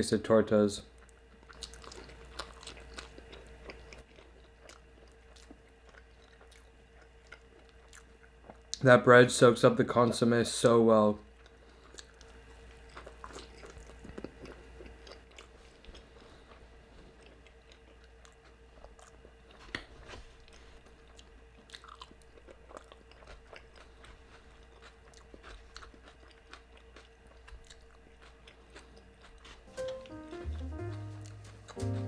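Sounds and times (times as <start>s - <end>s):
faint steady hum: 0.0s - 32.0s
close-miked chewing: 0.9s - 8.8s, 11.3s - 29.7s.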